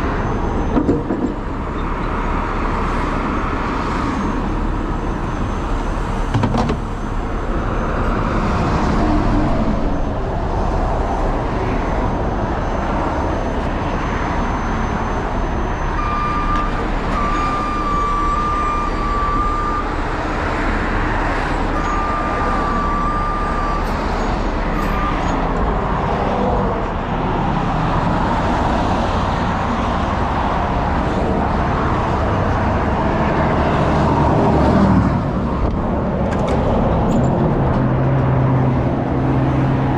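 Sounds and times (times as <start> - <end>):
vehicle noise: 0.0 - 39.9.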